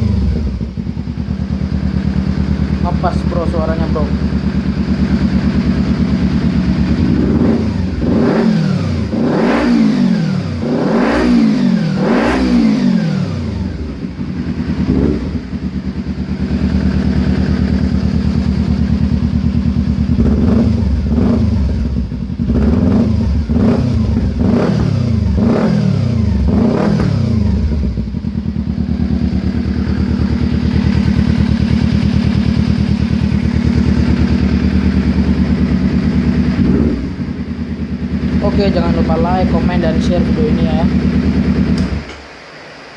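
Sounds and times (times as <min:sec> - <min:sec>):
motorcycle engine revving: 0:00.0 - 0:42.5.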